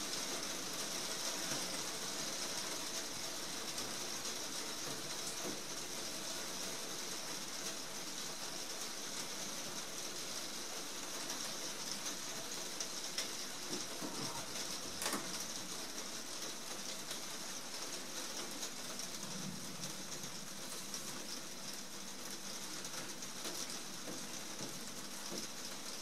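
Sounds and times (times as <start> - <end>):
heavy rain on glass roof: 0.0 - 26.0.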